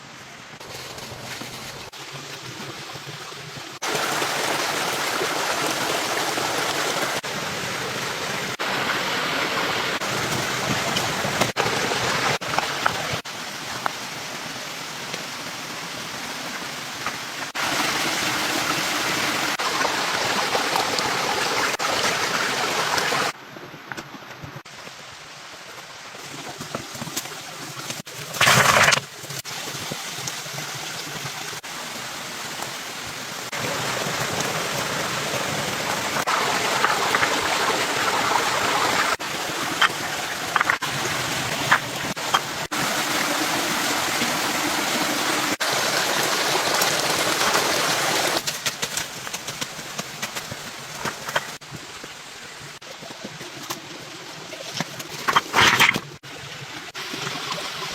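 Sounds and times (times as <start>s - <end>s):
running water rushing: 0.0s - 57.9s.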